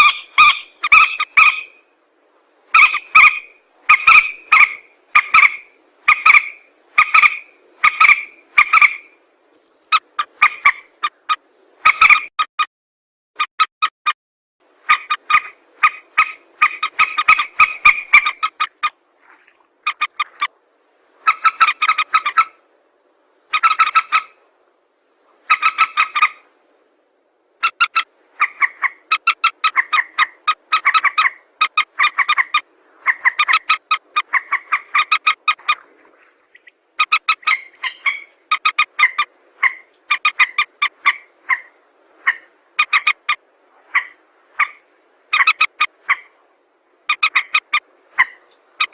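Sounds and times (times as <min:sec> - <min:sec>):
bird clucking calls: 0:00.0 - 0:01.8, 0:02.7 - 0:09.1, 0:09.9 - 0:12.4, 0:14.8 - 0:20.5, 0:21.2 - 0:22.6, 0:23.5 - 0:24.4, 0:25.4 - 0:26.4, 0:27.6 - 0:46.4, 0:47.1 - 0:48.9.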